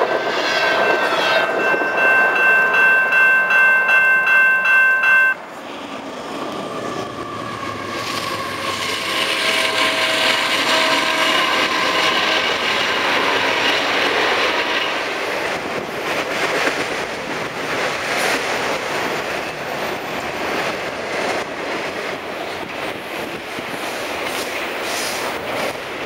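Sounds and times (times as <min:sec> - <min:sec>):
train wheels on rail: 0:00.0 - 0:26.0.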